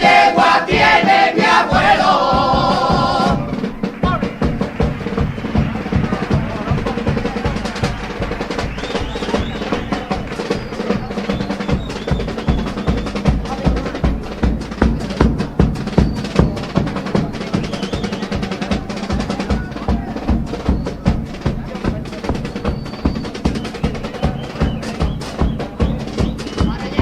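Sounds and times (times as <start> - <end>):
band music: 0.0 - 27.0
bass drum and snare drum: 0.0 - 27.0.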